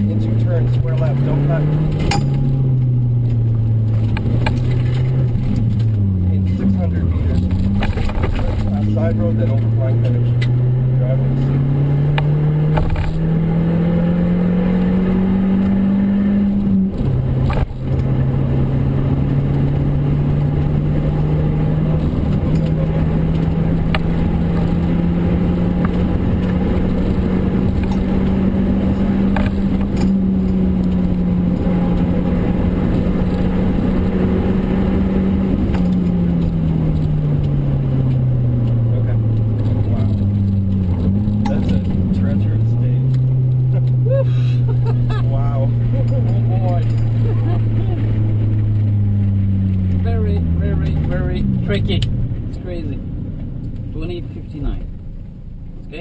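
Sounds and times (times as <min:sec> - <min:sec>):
car engine pulling hard: 0:00.0 - 0:56.0
road and tyre noise: 0:00.0 - 0:56.0.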